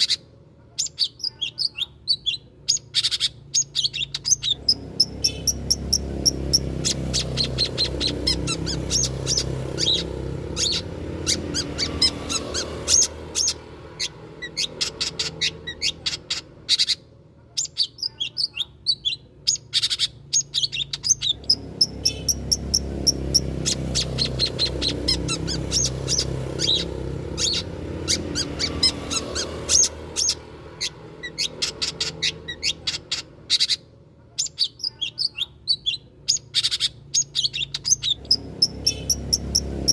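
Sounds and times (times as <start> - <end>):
bird chirping and chattering: 0.0 - 39.9.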